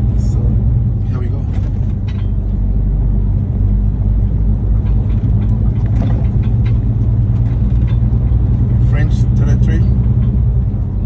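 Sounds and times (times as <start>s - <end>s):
road noise: 0.0s - 11.0s
truck engine running: 0.0s - 11.0s.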